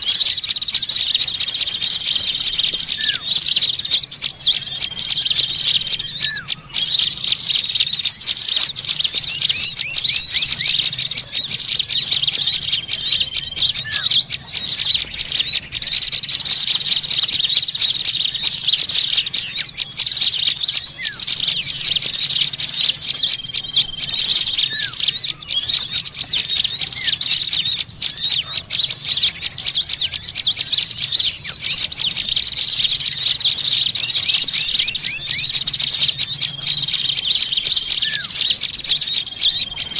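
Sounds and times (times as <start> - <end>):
small songbirds chattering: 0.0 - 39.9.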